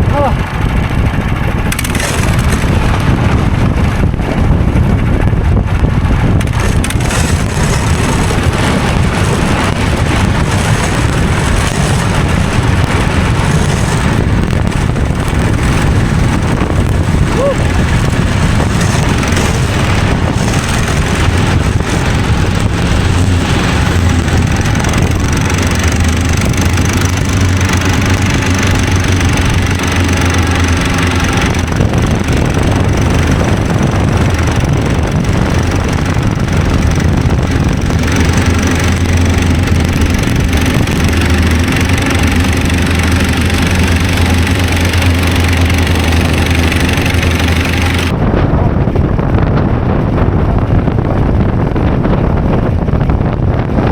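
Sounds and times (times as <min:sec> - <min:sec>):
small engine droning: 0:00.0 - 0:53.9
steady rushing noise: 0:00.0 - 0:53.9.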